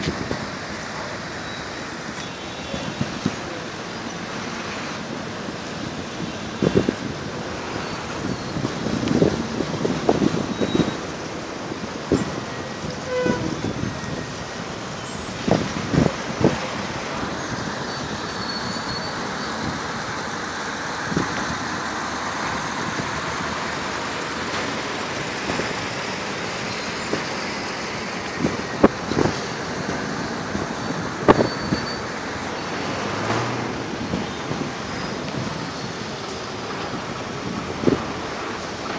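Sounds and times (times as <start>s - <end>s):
city street traffic: 0.0s - 38.9s.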